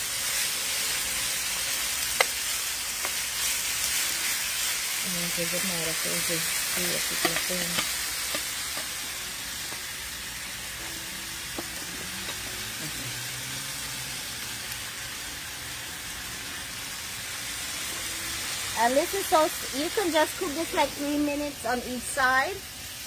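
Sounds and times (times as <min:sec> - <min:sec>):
chicken sizzling in a skillet: 0:00.0 - 0:23.0.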